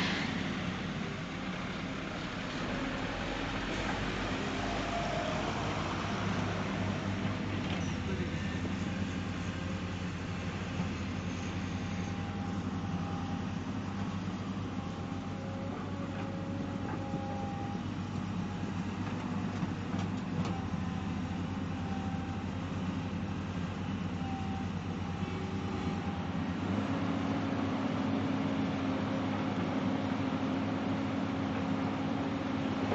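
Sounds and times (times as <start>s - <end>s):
excavator diesel engine: 0.0s - 32.9s.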